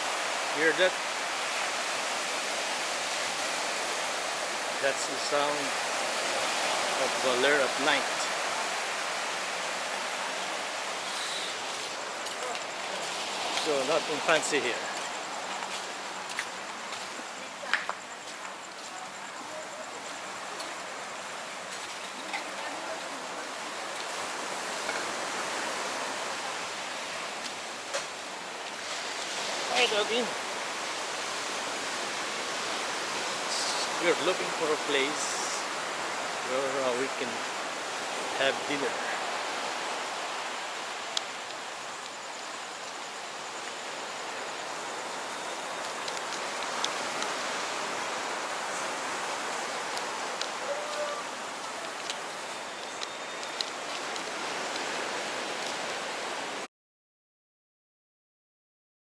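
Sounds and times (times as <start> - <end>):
ocean surf breaking on a beach: 0.0 - 56.7.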